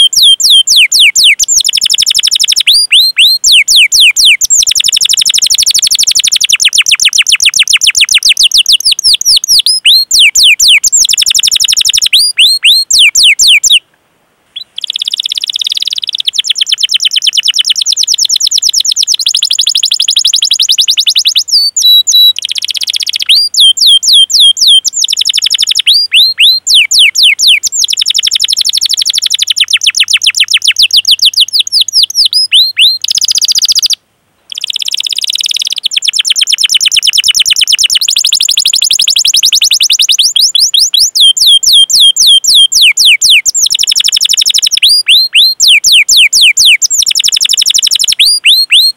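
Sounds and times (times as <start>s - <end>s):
canary singing trills: 0.0s - 13.8s, 14.6s - 48.9s.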